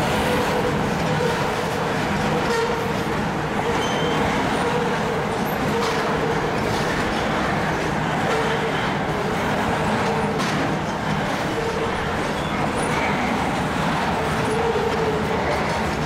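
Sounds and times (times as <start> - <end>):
train wheels rolling on rails: 0.0 - 16.0.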